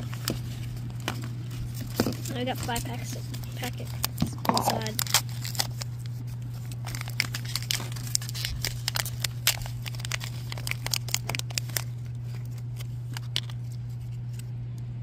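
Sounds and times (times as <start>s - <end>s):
wrapper crackling as torn open: 0.0s - 14.5s
steady low hum: 0.0s - 15.0s.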